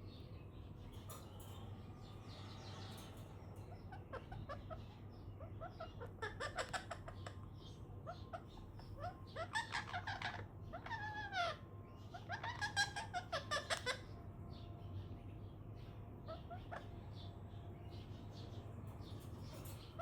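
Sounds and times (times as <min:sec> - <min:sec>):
parakeet chirping and squawking: 0:00.9 - 0:14.8, 0:15.8 - 0:20.0.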